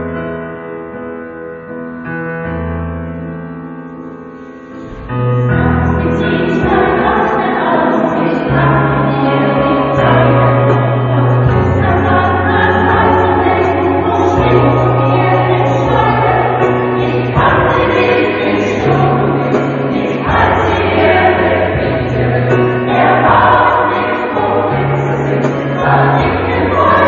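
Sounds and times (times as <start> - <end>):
piano chords: 0.0 - 27.0
choir singing: 4.8 - 27.0.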